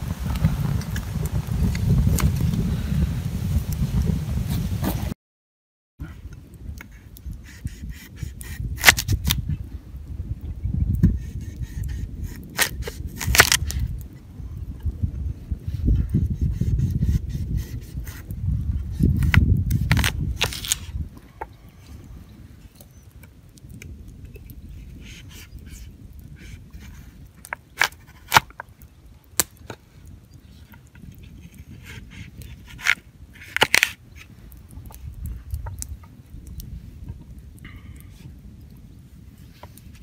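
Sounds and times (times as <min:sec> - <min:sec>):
campfire crackling: 0:00.0 - 0:05.0, 0:06.2 - 0:40.0.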